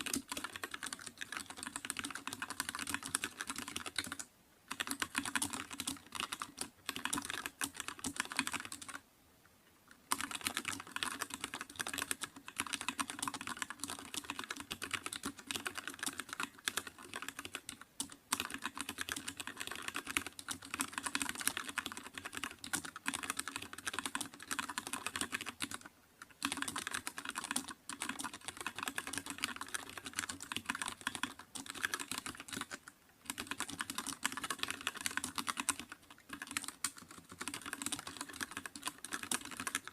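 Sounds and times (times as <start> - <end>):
fast typing on a keyboard: 0.0 - 9.0, 10.1 - 39.9.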